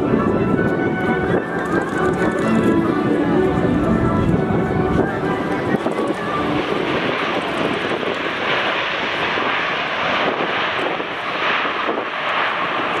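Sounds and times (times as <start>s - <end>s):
jet airliner landing: 0.0s - 13.0s.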